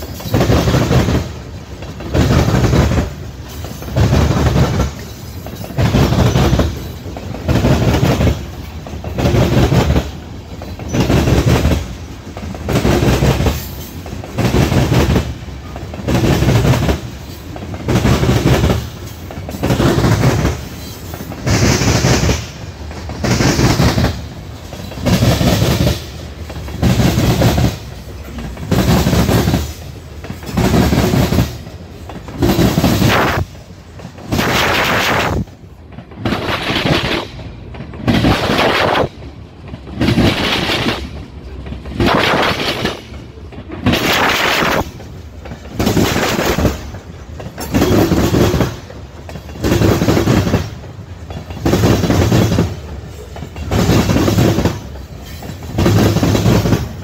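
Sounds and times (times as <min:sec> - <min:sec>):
rumble of rolling train cars: 0:00.0 - 0:57.0.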